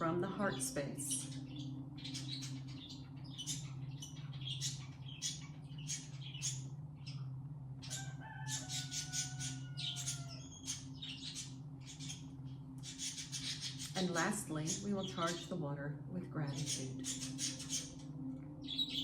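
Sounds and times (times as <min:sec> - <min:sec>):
birds chirping: 0:00.0 - 0:19.0
low meditation music drone: 0:00.0 - 0:19.0.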